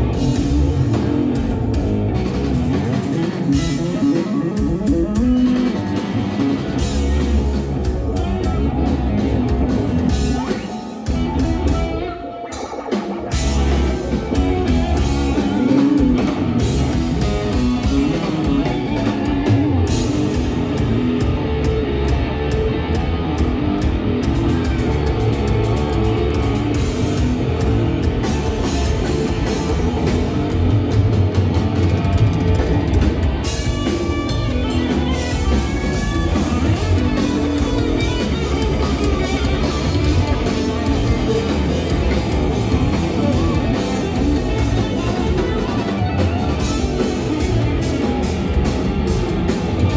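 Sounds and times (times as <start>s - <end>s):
drum kit: 0.0s - 49.9s
electric bass: 0.0s - 49.9s
electric guitar: 0.0s - 49.9s.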